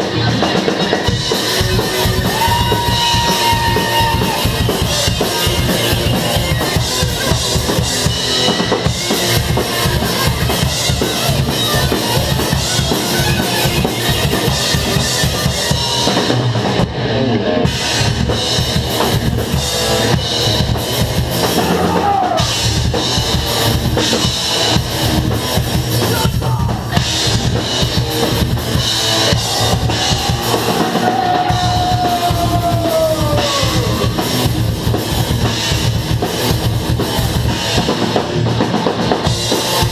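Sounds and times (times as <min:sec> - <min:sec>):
fast drumming: 0:00.0 - 0:39.9
metal band playing: 0:00.0 - 0:39.9.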